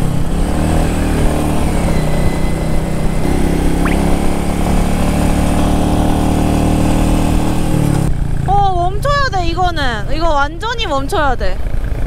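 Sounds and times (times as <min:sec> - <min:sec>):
single-cylinder motorcycle engine running: 0:00.0 - 0:12.0.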